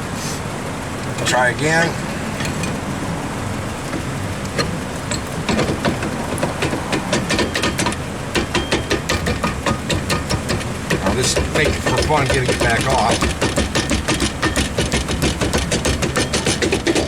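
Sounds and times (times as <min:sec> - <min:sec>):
metal clicks and knocks: 0:02.3 - 0:03.1, 0:03.8 - 0:17.0.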